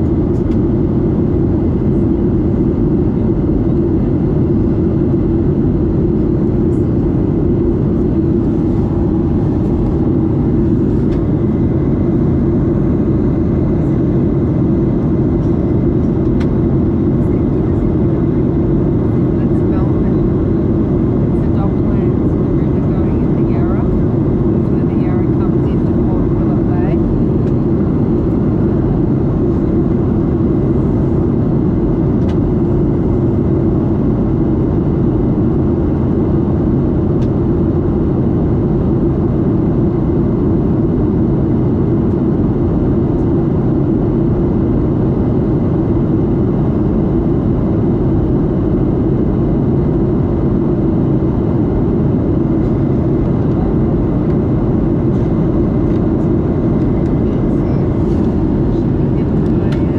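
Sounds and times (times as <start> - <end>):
airplane cabin engine noise: 0.0 - 59.9.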